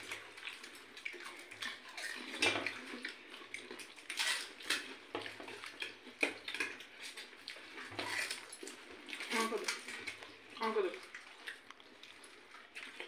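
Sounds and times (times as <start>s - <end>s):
crunching food: 0.0s - 13.0s.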